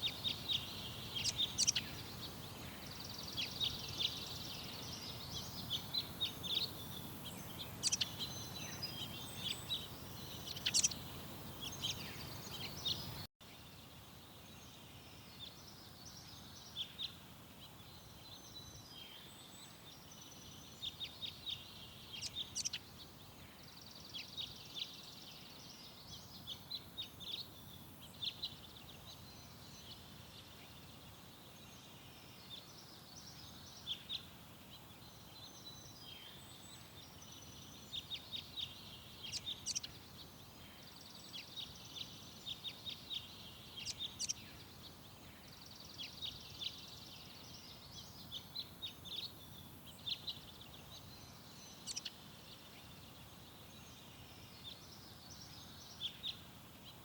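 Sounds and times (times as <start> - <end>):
faint background hiss: 0.0 - 57.0
songbirds chirping and trilling: 0.0 - 57.0.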